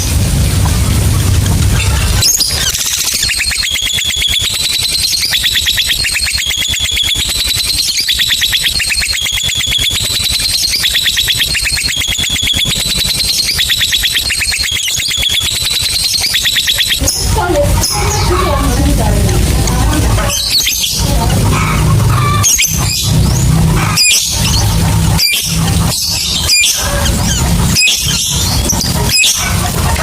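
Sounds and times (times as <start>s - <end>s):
lovebird chattering trill: 1.7s - 30.0s.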